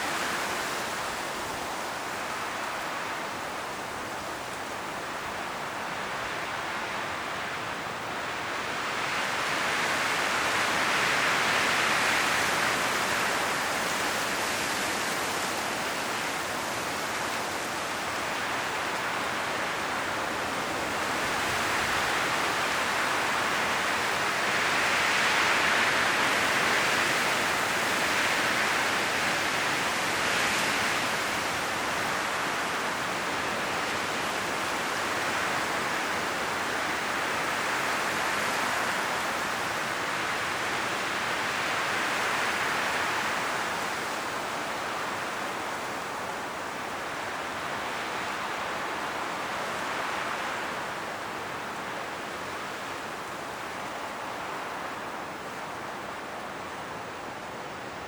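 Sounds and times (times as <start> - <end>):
wind rustling leaves: 0.0 - 58.0.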